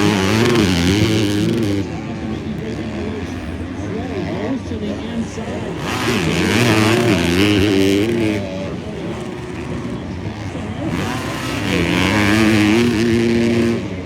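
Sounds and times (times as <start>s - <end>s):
motocross bikes revving: 0.0s - 14.0s.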